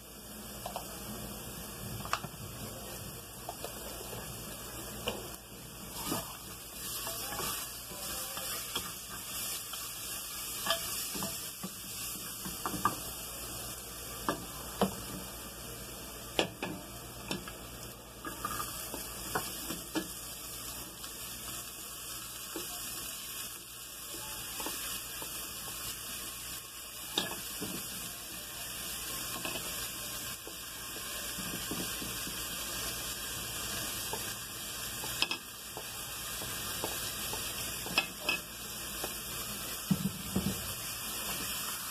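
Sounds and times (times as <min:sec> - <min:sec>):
food sizzling in hot oil: 0:00.0 - 0:41.9.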